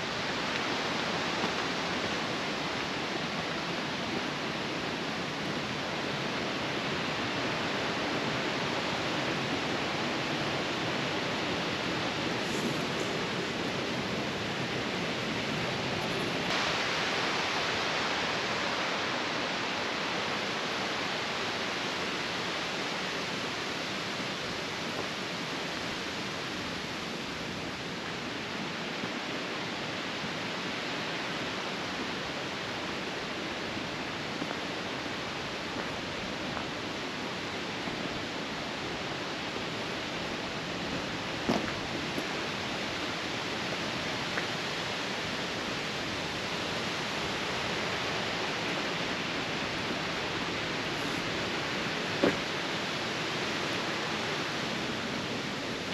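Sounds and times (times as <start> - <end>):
mountain stream rushing: 0.0 - 55.9.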